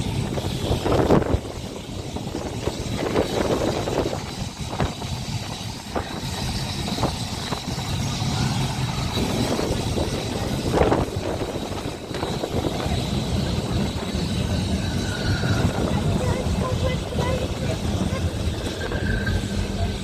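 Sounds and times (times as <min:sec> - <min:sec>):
tram wheels and motors rumbling: 0:00.0 - 0:20.0.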